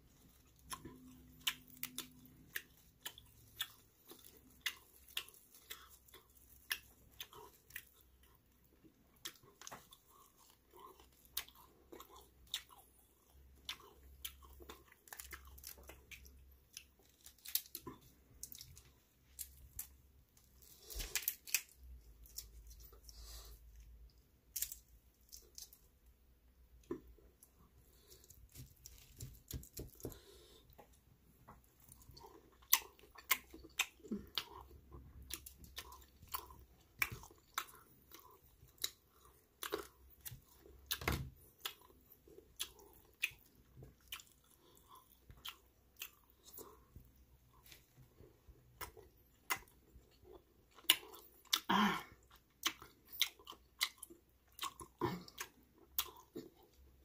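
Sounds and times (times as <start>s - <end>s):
chewing and crunching: 0.0s - 26.0s, 26.8s - 57.0s.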